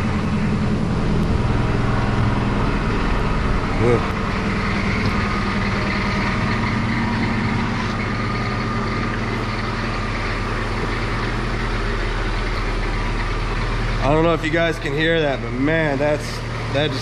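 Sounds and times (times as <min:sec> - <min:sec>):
car engine idling: 0:00.0 - 0:17.0
noisy transmission hum: 0:00.0 - 0:17.0.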